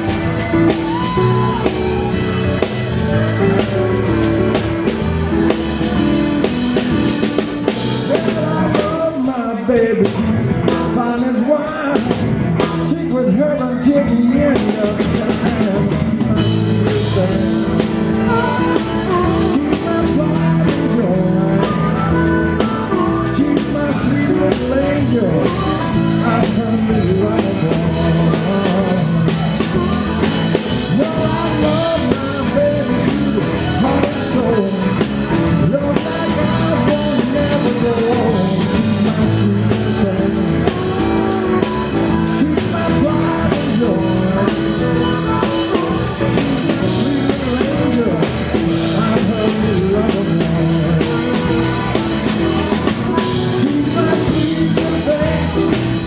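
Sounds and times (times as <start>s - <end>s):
blues-rock band playing: 0.0s - 56.0s
man singing lead: 0.0s - 56.0s.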